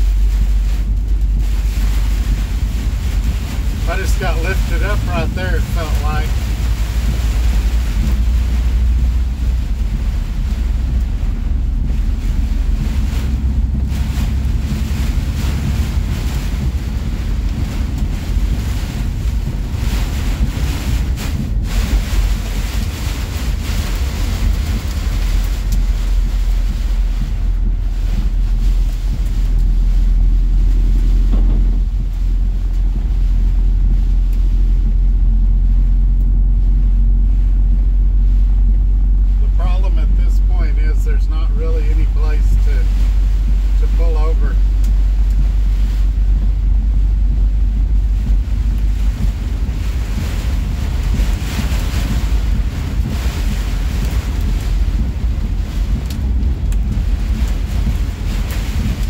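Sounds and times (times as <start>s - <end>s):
rain and wind beating on truck cab: 0.0s - 59.0s
truck engine and tyres drone: 0.0s - 59.0s.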